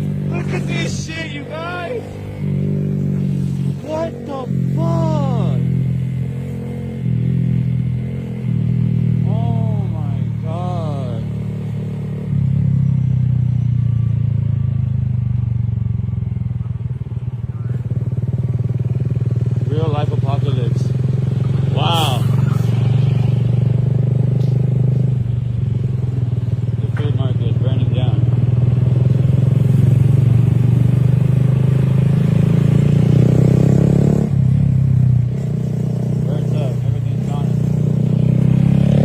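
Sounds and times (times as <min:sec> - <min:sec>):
vehicle engine running steadily: 0:00.0 - 0:33.3, 0:34.1 - 0:39.0.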